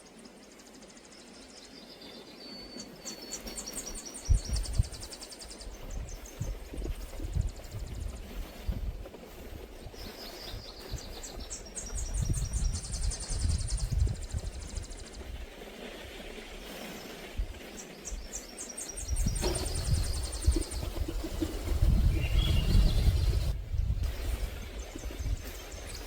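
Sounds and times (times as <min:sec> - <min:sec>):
songbird singing: 0:00.0 - 0:15.5, 0:16.5 - 0:26.0.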